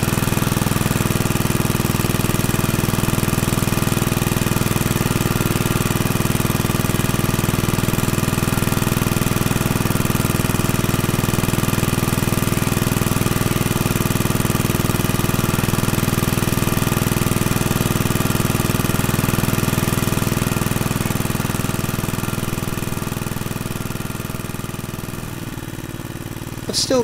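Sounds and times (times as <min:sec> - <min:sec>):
generator engine running: 0:00.0 - 0:27.0.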